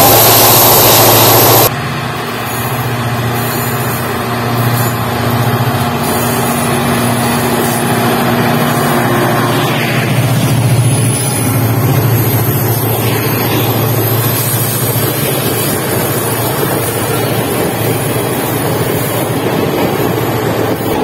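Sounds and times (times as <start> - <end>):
diesel locomotive engine droning: 0.0 - 21.0
passenger train rushing past: 0.0 - 21.0.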